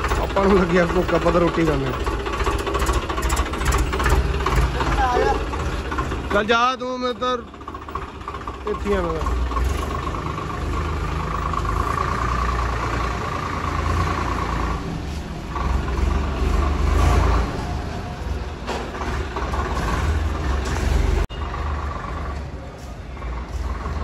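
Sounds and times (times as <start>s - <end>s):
tractor diesel engine: 0.0s - 24.0s.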